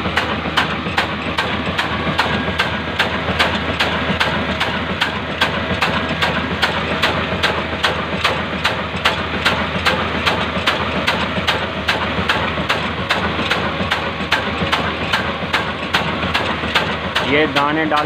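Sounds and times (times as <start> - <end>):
old engine knocking: 0.0 - 18.0
stone mill mechanical din: 0.0 - 18.0.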